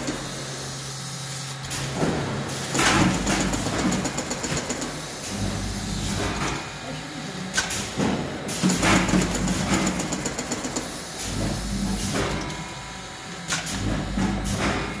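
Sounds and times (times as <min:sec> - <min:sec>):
pneumatic hisses and clacks: 0:00.0 - 0:06.7, 0:07.6 - 0:12.6, 0:13.4 - 0:15.0.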